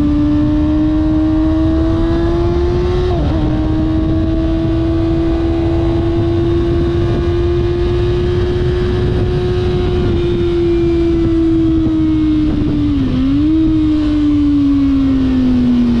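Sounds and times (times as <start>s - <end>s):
motorcycle engine at high revs: 0.0s - 16.0s
wind rush on microphone: 0.0s - 16.0s.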